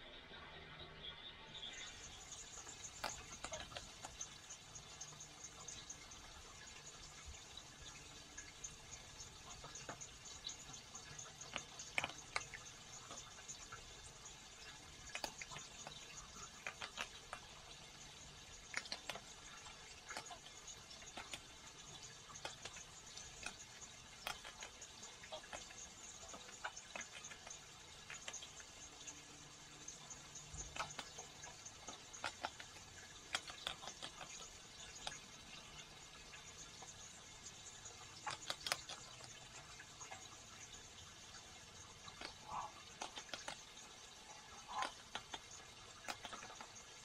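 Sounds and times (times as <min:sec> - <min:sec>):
raccoon eating clicks and smacks: 0:01.8 - 0:47.0
animal crunching food: 0:02.0 - 0:06.8, 0:07.7 - 0:37.0, 0:37.8 - 0:40.5, 0:41.9 - 0:47.0.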